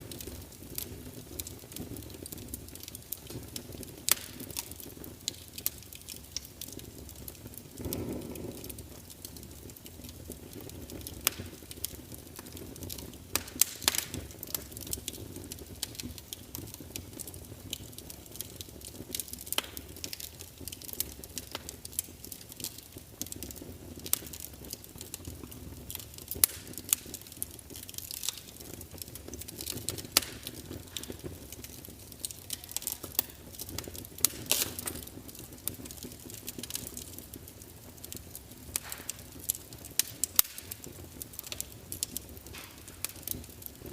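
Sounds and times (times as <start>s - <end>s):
low rush of flame: 0.0s - 43.9s
wood fire crackling and popping: 0.0s - 43.9s.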